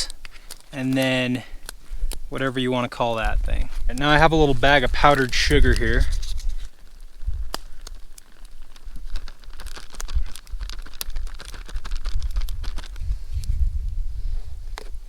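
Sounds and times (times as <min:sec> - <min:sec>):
plastic bag crinkling: 0:00.0 - 0:13.1.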